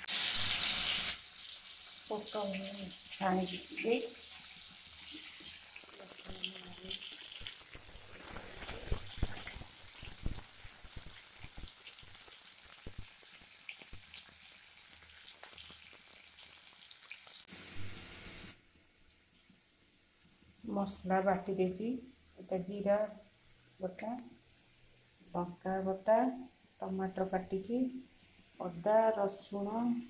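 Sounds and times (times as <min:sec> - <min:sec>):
potatoes sizzling in hot oil: 0:00.0 - 0:25.6.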